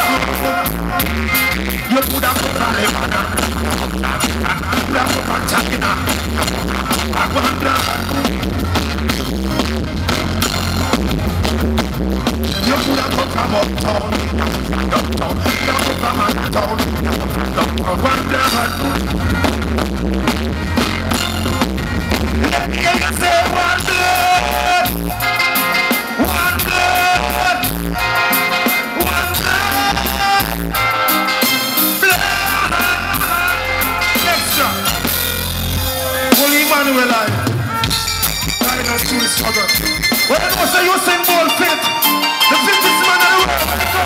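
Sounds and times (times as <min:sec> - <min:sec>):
man singing: 0:00.0 - 0:09.0, 0:12.5 - 0:19.1, 0:22.3 - 0:35.2, 0:36.0 - 0:44.0
live reggae band: 0:00.0 - 0:44.0.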